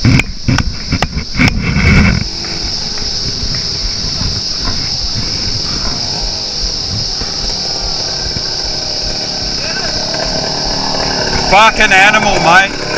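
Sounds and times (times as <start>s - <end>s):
faint low rumble: 0.0s - 11.6s
insects droning: 0.0s - 12.9s
low bursts and knocks: 0.0s - 12.9s.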